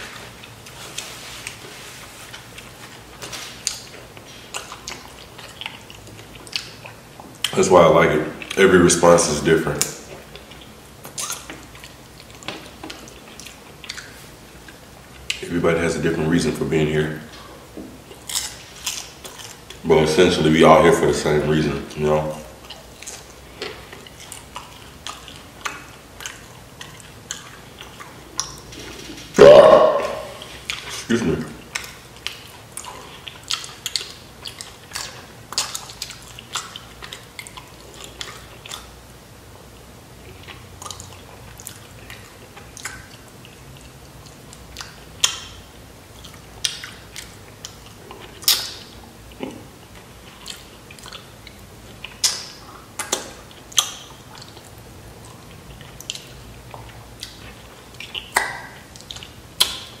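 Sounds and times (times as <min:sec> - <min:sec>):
wet chewing: 0:00.0 - 0:15.6, 0:17.3 - 1:00.0.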